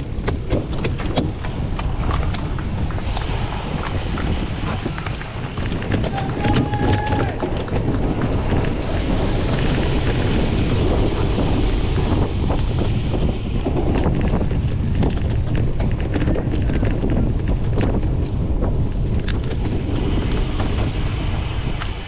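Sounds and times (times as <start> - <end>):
bike clicking and rattling: 0.0 - 22.0
wind buffeting microphone: 0.0 - 22.0.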